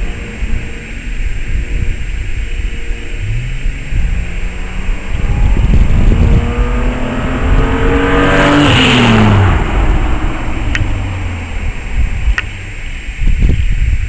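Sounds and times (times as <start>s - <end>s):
car accelerating past: 0.0s - 13.2s.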